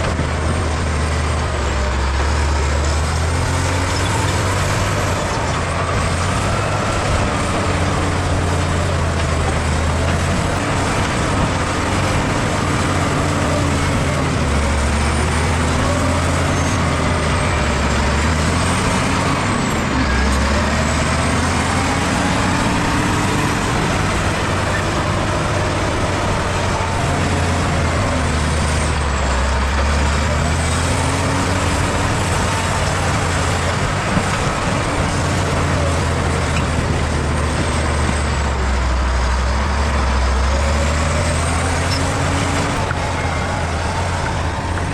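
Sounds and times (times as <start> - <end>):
bulldozer diesel engine: 0.0 - 44.9.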